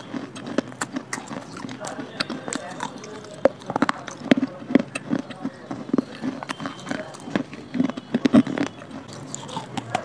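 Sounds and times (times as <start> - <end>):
mouth crunching dry clay: 0.0 - 10.0.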